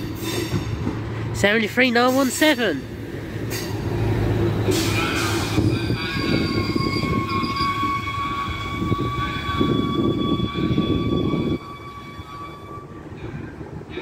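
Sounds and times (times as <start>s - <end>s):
train low rumble: 0.0s - 14.0s
train high whine: 2.2s - 14.0s.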